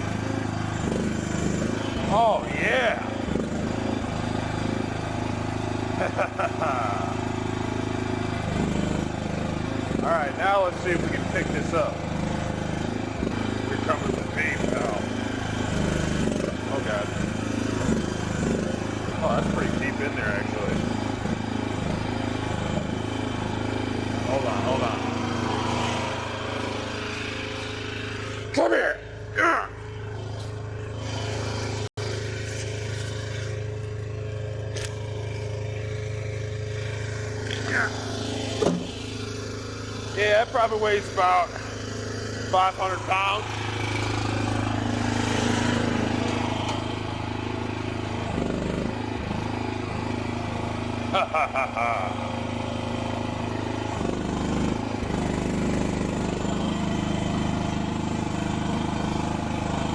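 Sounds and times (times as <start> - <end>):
small engine running steadily: 0.0 - 59.9.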